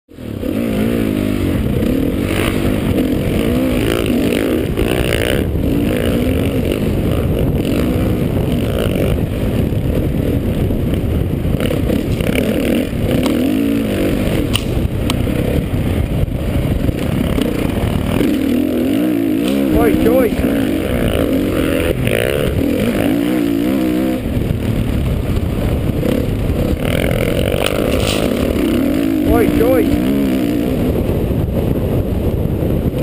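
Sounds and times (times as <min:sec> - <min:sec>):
dirt bike engine revving: 0:00.1 - 0:33.0
wind rushing over microphone: 0:00.1 - 0:33.0.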